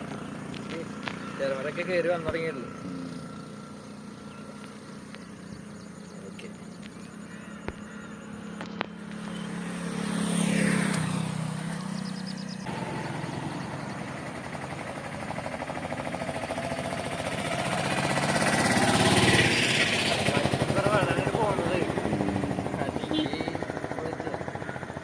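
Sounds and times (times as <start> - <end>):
engine with fast even pulse: 0.0 - 25.0
vehicle engine hum passing: 0.0 - 25.0.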